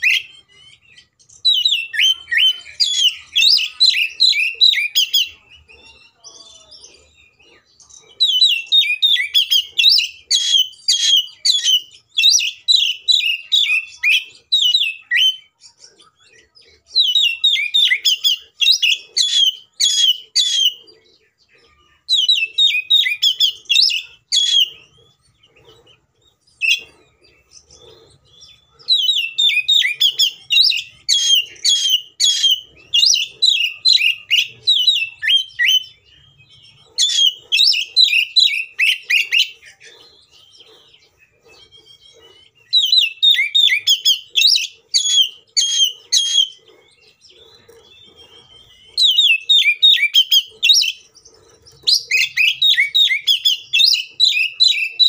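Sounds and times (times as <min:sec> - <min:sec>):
magpie-robin whistled song: 0:00.0 - 0:55.0.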